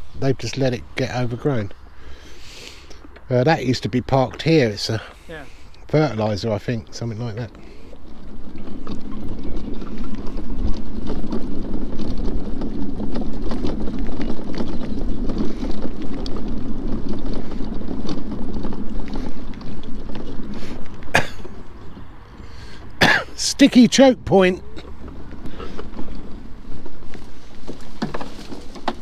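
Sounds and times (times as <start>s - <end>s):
mobility scooter rumbling: 0.0s - 29.0s.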